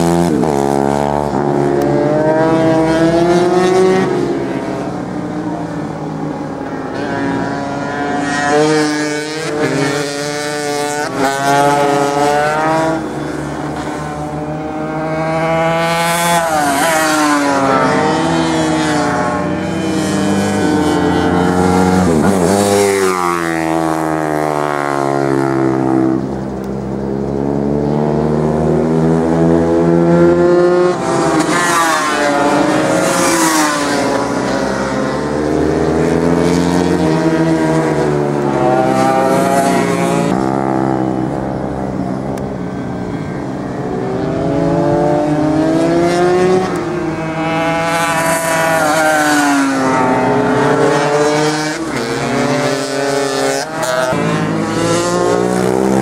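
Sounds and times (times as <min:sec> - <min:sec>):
motorcycle passing close by: 0:00.0 - 0:04.9, 0:06.9 - 0:56.0
racing motorcycles revving: 0:00.0 - 0:56.0.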